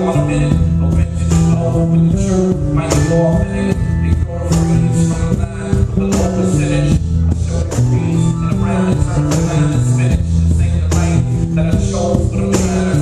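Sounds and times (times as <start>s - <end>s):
drum and percussion beat: 0.0s - 13.0s
stepping bass line: 0.0s - 13.0s.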